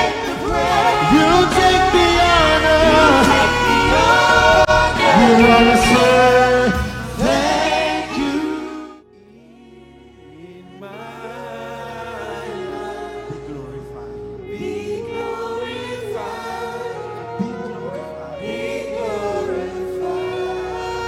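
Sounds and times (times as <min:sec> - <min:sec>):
choir singing gospel music: 0:00.0 - 0:21.0.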